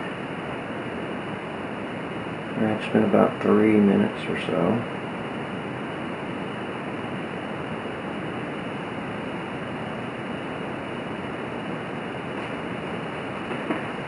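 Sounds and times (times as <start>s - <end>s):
camping stove hissing: 0.0s - 14.0s.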